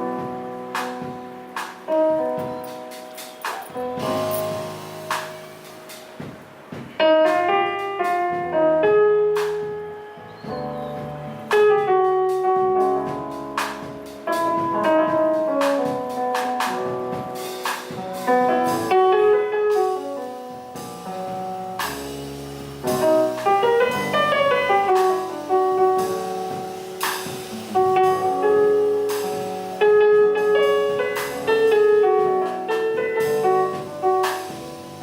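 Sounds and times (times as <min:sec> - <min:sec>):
jazz piano playing: 0:00.0 - 0:35.0.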